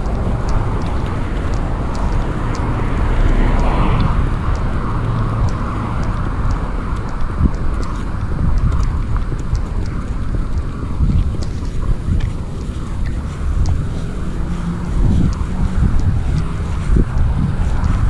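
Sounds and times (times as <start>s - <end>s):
faint light ticks: 0.0s - 18.0s
road traffic noise: 0.0s - 18.0s
wind rumble on microphone: 0.0s - 18.0s.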